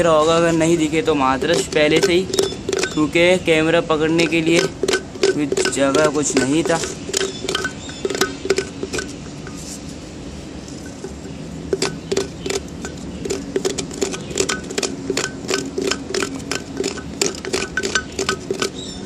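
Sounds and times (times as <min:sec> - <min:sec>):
wooden stick scraping terracotta pot: 0:00.0 - 0:10.0, 0:10.6 - 0:19.0.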